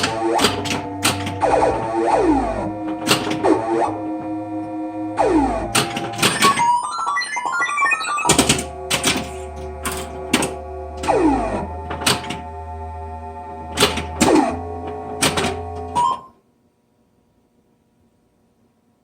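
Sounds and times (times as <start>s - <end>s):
electronic multi-tone drone: 0.0s - 16.2s.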